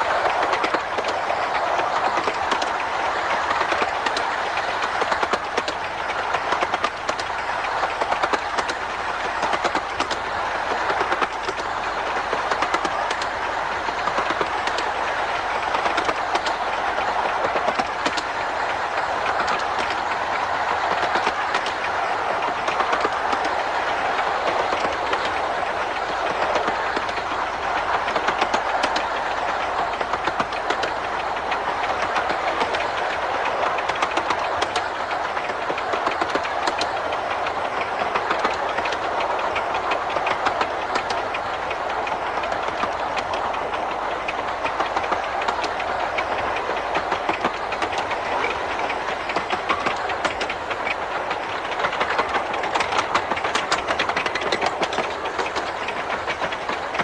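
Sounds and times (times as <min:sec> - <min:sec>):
train running noise: 0:00.0 - 0:57.0
wheels clicking over rails: 0:00.0 - 0:57.0.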